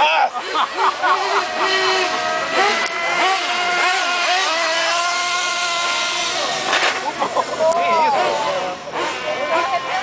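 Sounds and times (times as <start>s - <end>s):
model car engines whining: 0.0s - 10.0s.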